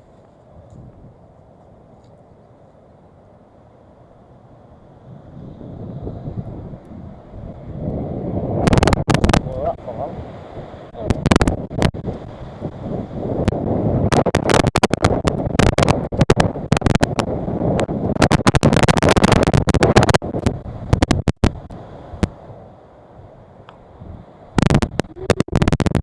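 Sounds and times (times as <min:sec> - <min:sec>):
wind gusting across microphone: 0:00.0 - 0:02.4, 0:03.1 - 0:26.0.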